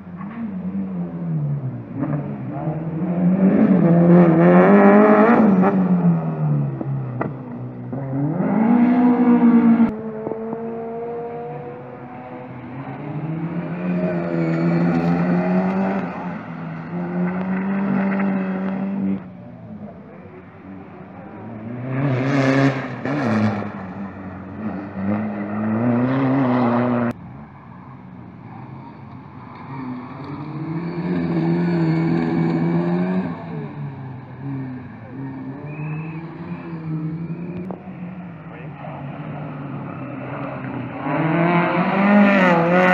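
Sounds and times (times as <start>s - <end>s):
rally cars revving past: 0.0s - 42.9s.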